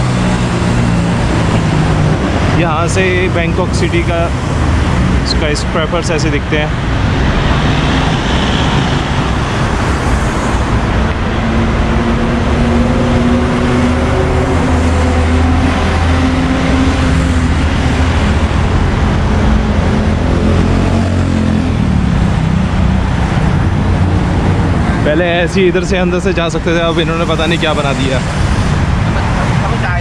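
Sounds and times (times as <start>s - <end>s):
city road traffic: 0.0s - 30.0s.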